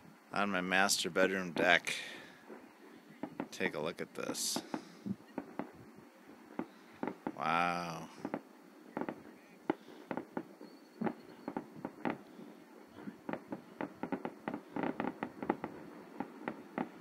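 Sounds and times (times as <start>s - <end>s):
fireworks popping and banging: 0.6s - 17.0s.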